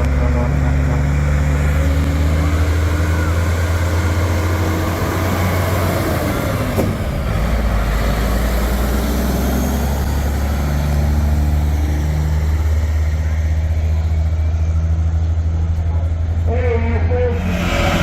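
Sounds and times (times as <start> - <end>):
diesel truck engine pulling away: 0.0 - 18.0.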